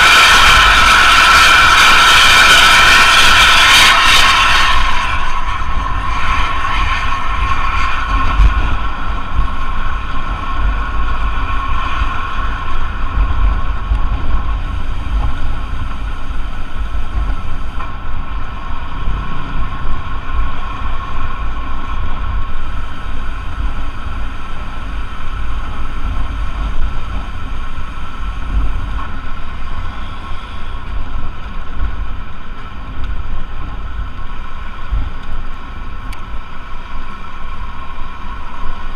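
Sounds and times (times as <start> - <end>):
bus engine and road noise: 0.0 - 38.9
high steady whine: 0.0 - 38.9
wind buffeting microphone: 0.0 - 38.9.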